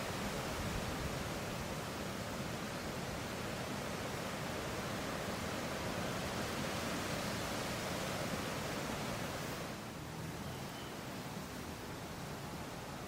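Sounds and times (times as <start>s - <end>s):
wind rustling tree leaves: 0.0s - 13.0s.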